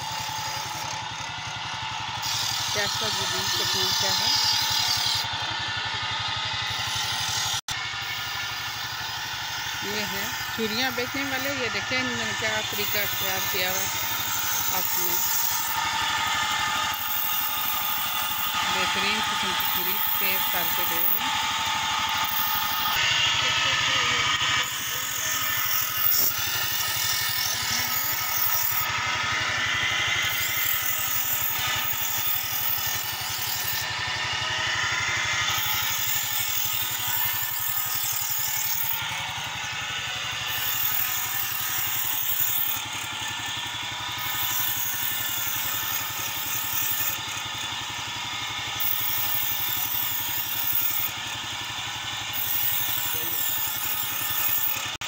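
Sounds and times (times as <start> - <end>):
motorcycle engine running: 0.0 - 55.0
knife grinding on wheel: 2.2 - 55.0.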